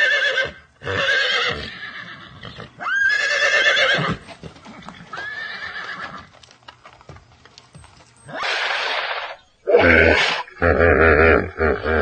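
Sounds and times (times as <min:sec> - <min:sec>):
horse whinnying: 0:00.0 - 0:06.3, 0:08.3 - 0:12.0.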